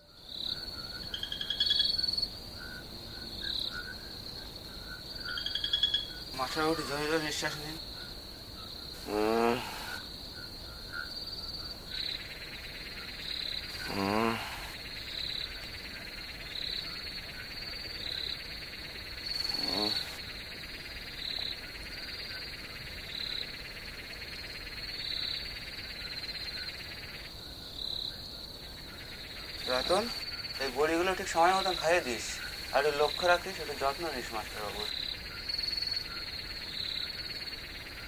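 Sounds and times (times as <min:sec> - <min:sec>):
crickets chirring: 0:00.0 - 0:38.0
frogs croaking: 0:00.0 - 0:38.0.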